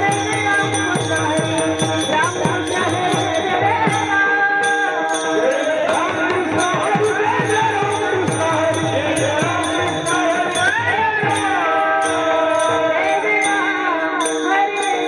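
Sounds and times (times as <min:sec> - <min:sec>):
jingling metal percussion: 0:00.0 - 0:15.0.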